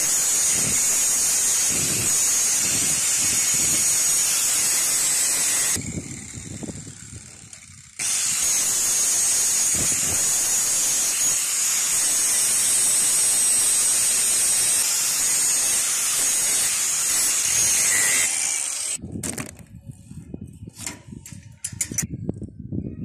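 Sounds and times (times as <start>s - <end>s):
angle grinder grinding steel: 0.0s - 19.0s.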